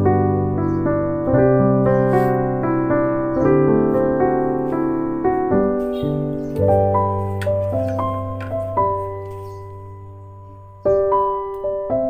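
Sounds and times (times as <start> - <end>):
piano playing sustained chords: 0.0 - 12.0.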